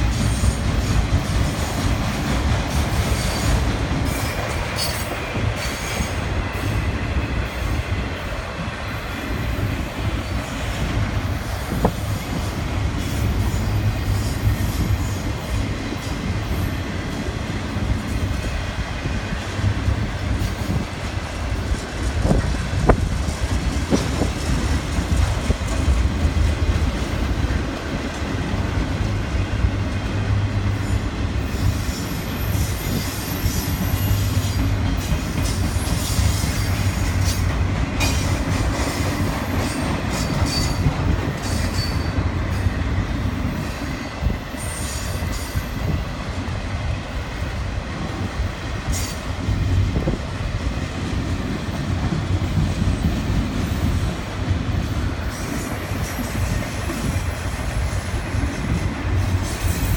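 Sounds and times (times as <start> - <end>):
freight cars rumbling on rails: 0.0 - 59.9
rail joint clicks: 0.0 - 59.9.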